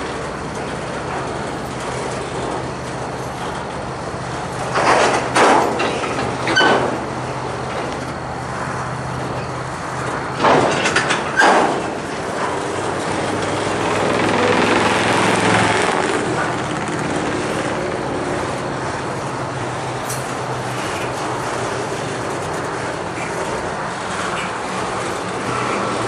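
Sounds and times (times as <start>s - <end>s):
low engine hum: 0.0s - 26.0s
train wheels rumbling and rattling: 0.0s - 26.0s.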